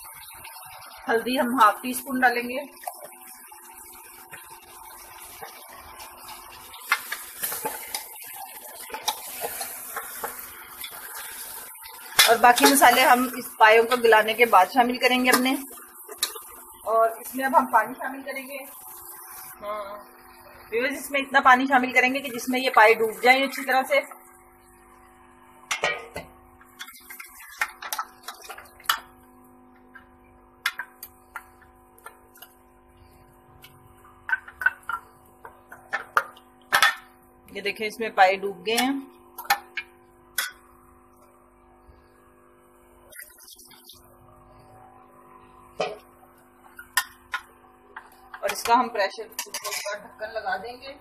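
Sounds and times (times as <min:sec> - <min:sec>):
food sizzling in oil: 0:00.0 - 0:51.0.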